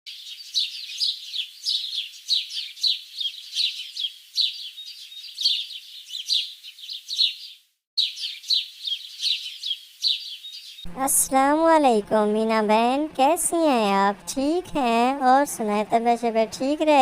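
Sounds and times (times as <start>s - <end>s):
birds chirping: 0.1s - 17.0s.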